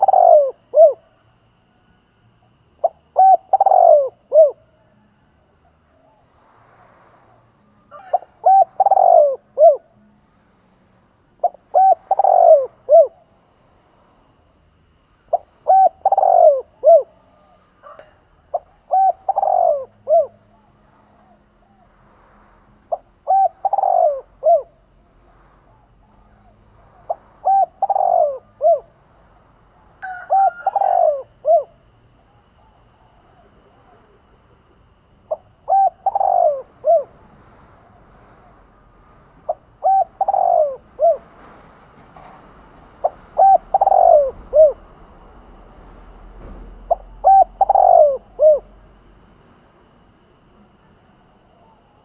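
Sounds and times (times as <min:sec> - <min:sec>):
dove cooing: 0:00.0 - 0:01.6, 0:02.2 - 0:04.9, 0:07.9 - 0:10.0, 0:11.3 - 0:13.4, 0:14.4 - 0:22.0, 0:22.9 - 0:49.4.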